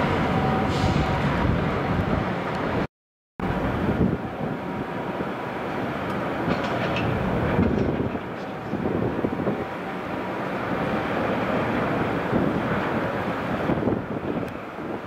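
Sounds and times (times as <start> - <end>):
excavators rumbling: 0.0 - 15.0.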